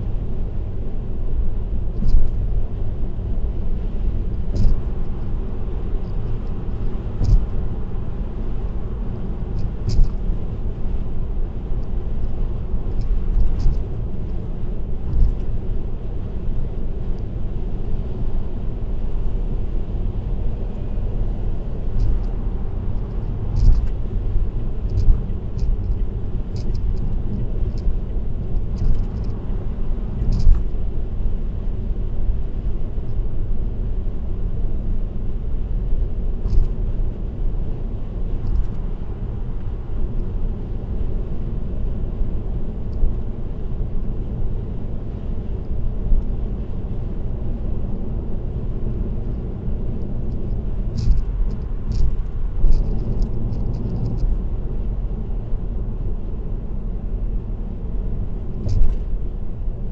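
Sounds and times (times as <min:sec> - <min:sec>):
car road noise: 0:00.0 - 0:59.9.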